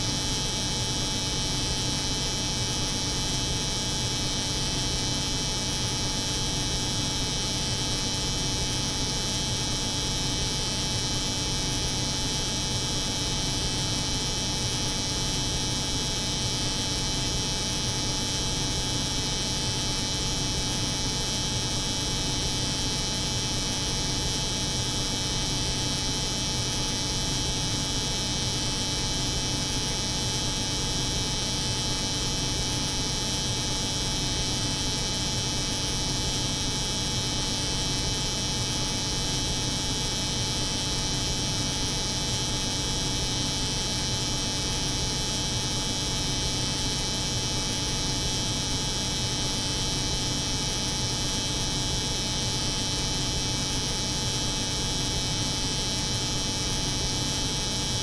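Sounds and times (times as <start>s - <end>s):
refrigeration unit hum: 0.0s - 58.0s.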